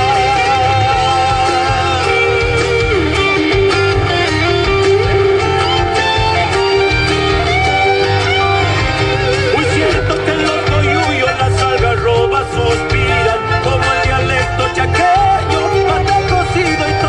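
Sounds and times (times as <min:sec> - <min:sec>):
folk guitars playing: 0:00.0 - 0:17.0
held melody line: 0:00.0 - 0:17.0.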